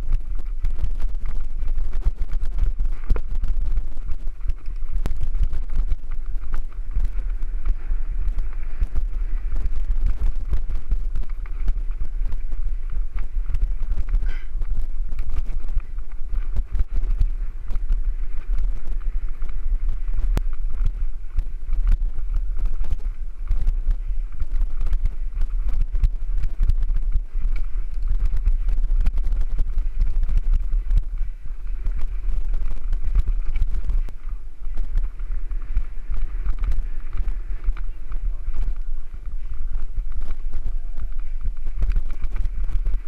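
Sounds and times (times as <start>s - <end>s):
bike rattling and knocking: 0.0s - 43.0s
wind buffeting microphone: 0.0s - 43.0s.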